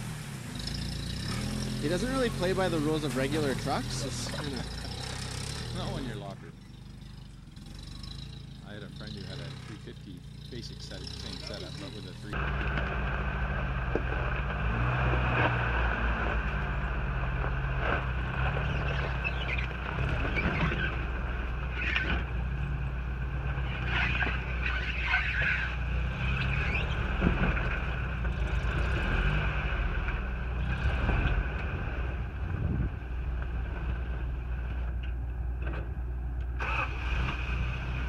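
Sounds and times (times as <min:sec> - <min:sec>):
truck engine droning: 0:00.0 - 0:38.0.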